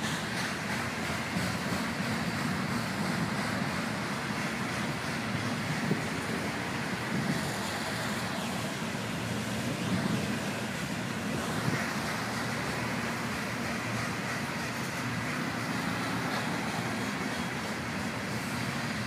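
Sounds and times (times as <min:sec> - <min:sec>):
road traffic passing: 0:00.0 - 0:19.0
train wheels rumbling on rail: 0:00.0 - 0:19.0.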